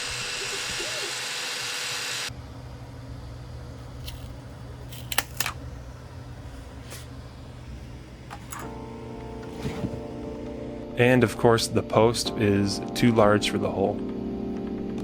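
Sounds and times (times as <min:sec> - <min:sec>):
low hum: 0:00.0 - 0:12.1.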